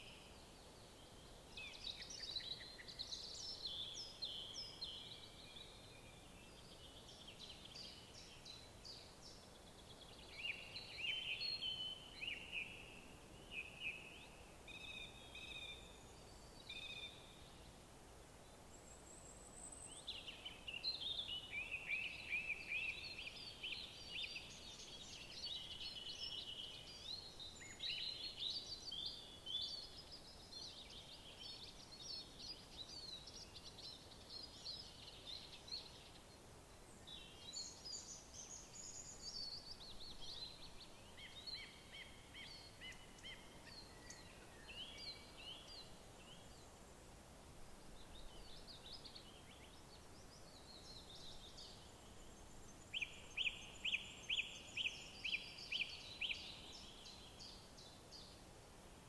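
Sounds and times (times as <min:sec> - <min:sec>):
songbirds chirping and trilling: 0:00.0 - 0:47.1, 0:47.8 - 0:58.6.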